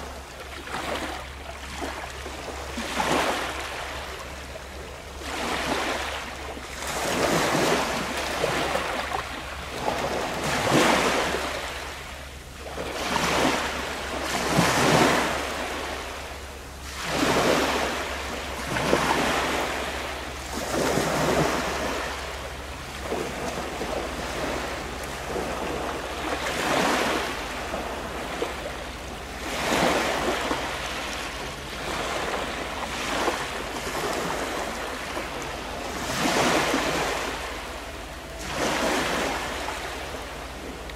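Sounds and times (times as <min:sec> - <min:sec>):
sea waves washing ashore: 0:00.0 - 0:40.9.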